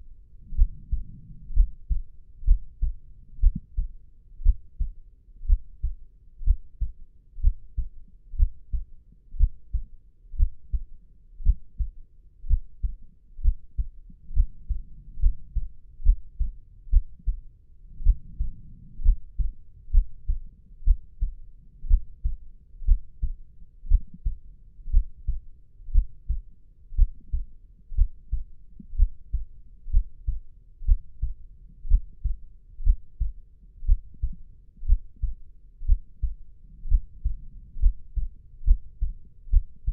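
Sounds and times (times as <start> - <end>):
heartbeat thumping: 0.5 - 17.4, 18.0 - 26.4, 27.0 - 39.9.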